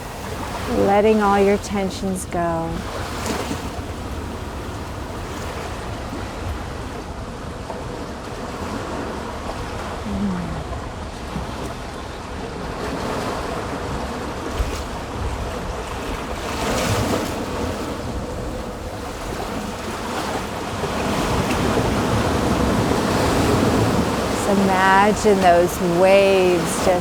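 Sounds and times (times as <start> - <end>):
ocean surf on sand beach: 0.0 - 27.0.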